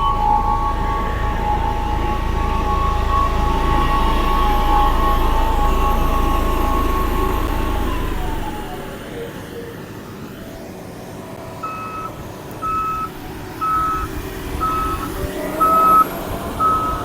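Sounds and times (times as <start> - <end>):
heavy machinery engine running: 0.0 - 17.0
reversing alarm beeping: 0.0 - 17.0.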